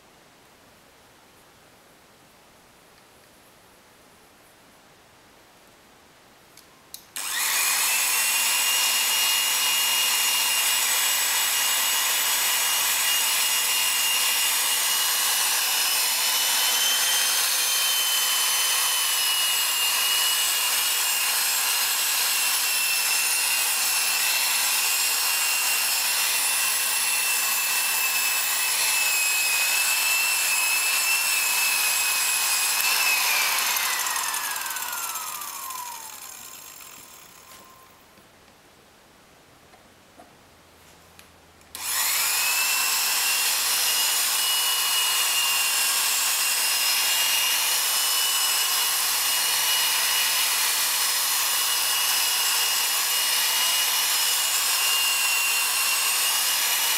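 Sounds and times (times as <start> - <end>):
rotary polisher whining: 7.2 - 38.0, 41.8 - 56.9.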